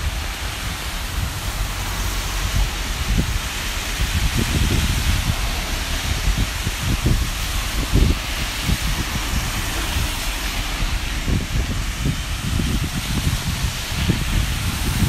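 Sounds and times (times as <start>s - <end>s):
rain hissing: 0.0s - 15.0s
wind gusts rumbling on microphone: 0.0s - 15.0s.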